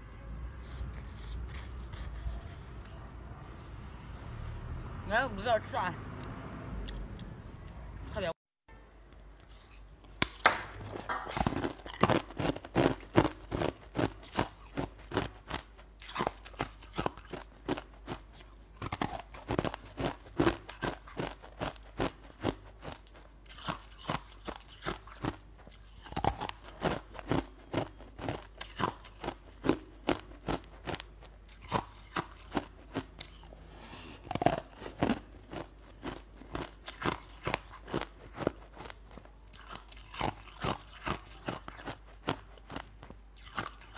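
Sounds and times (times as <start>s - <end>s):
person chewing crunchy food: 0.6s - 4.8s, 9.4s - 43.9s.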